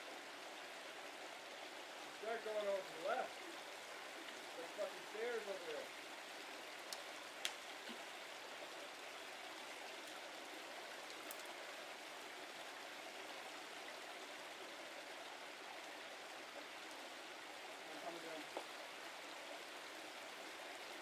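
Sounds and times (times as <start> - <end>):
brook running: 0.0 - 21.0.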